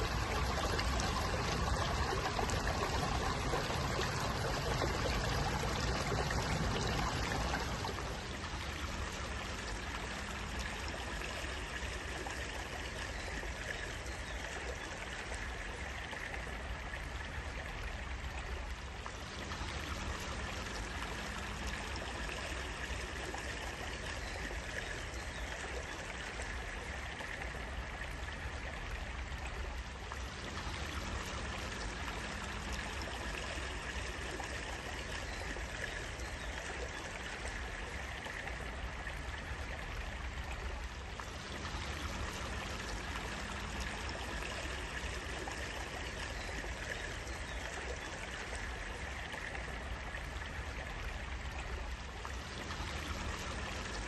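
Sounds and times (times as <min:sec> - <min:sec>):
water flowing steadily: 0:00.0 - 0:54.0.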